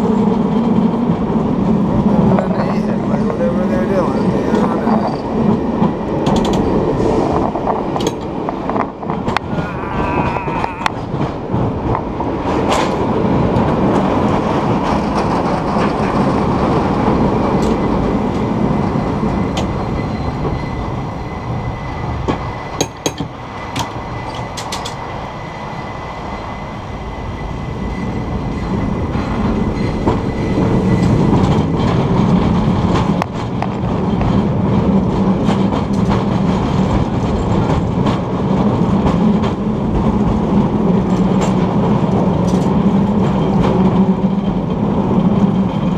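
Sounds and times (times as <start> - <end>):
cable car rumbling on rails: 0.0 - 45.9.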